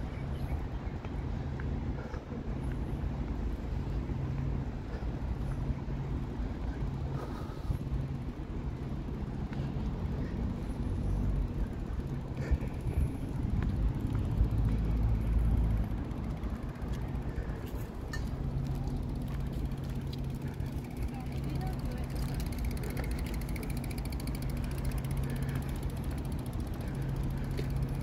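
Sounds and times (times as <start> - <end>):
constant low rumble: 0.0 - 28.0
low engine hum: 0.0 - 28.0.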